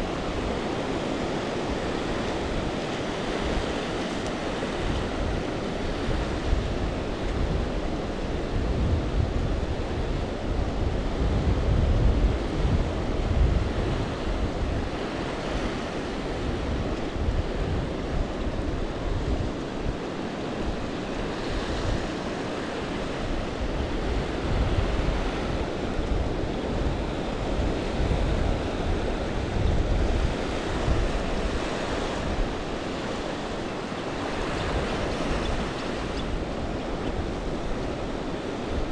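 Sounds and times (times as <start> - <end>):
waves washing on sand: 0.0 - 38.9
wind buffeting microphone: 0.0 - 38.9.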